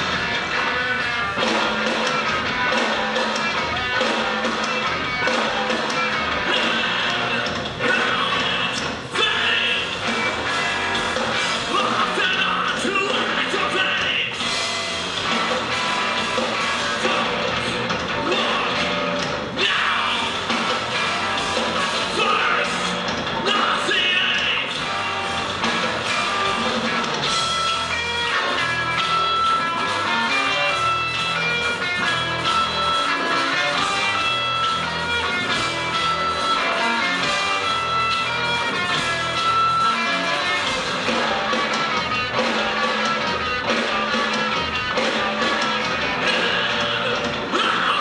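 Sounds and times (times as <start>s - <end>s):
fast-picked electric guitar: 0.0s - 48.0s
live rock band playing: 0.0s - 48.0s.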